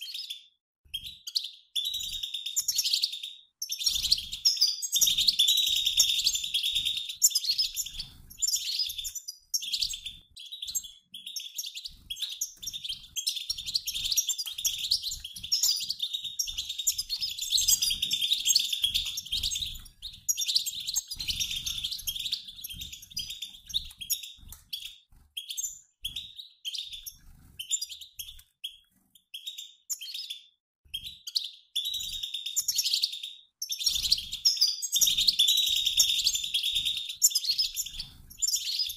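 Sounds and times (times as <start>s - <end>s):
goldfinch flock twittering: 1.4s - 28.4s, 31.3s - 38.9s.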